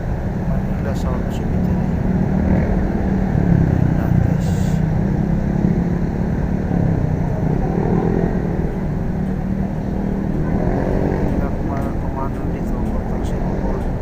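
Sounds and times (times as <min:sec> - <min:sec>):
faint steady hum: 0:00.0 - 0:14.0
vehicle engine and road rumble: 0:00.0 - 0:14.0.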